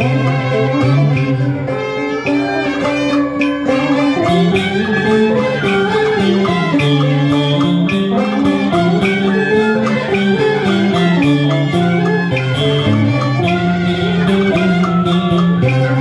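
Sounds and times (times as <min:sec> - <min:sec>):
plucked strings melody: 0:00.0 - 0:16.0
traditional instrumental ensemble: 0:00.0 - 0:16.0.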